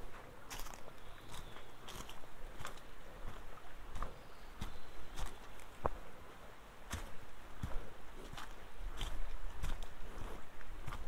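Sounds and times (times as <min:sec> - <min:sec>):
footsteps on dry leaves and stones: 0:00.0 - 0:06.1, 0:06.8 - 0:11.0.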